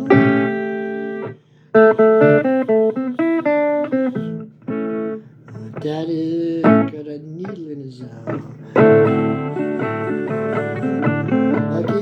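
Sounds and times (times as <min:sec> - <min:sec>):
blues guitar playing: 0:00.0 - 0:12.0.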